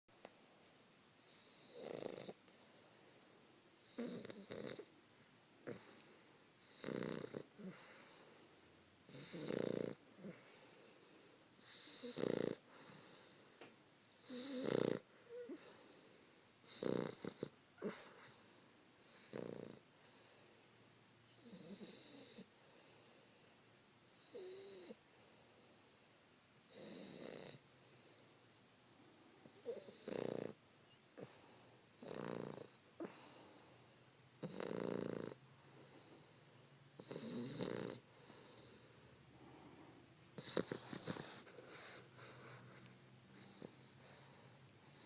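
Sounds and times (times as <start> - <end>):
puppy snoring: 1.2 - 2.9, 3.8 - 5.0, 5.6 - 8.4, 9.0 - 20.4, 21.2 - 23.1, 24.2 - 25.4, 26.6 - 28.2, 29.4 - 45.0.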